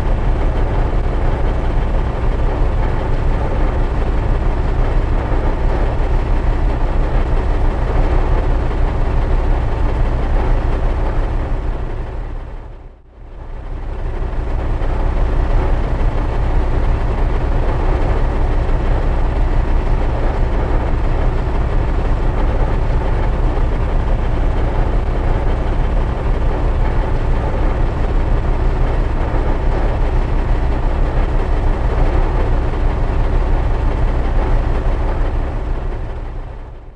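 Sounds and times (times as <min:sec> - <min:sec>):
large engine deep rumble: 0:00.0 - 0:36.9.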